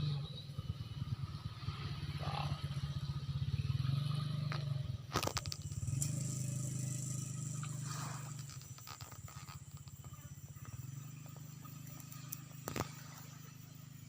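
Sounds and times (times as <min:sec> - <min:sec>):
small engine chugging: 0:00.0 - 0:14.0.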